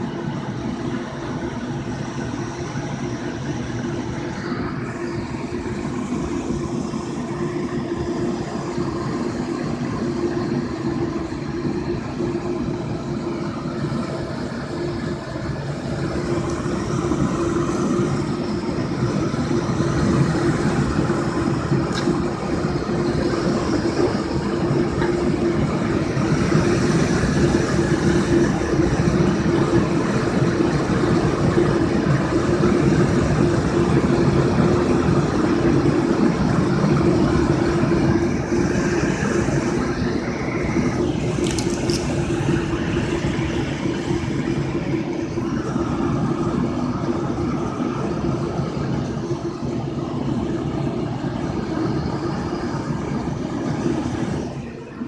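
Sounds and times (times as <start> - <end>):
wind tunnel fan running: 0.0 - 55.0.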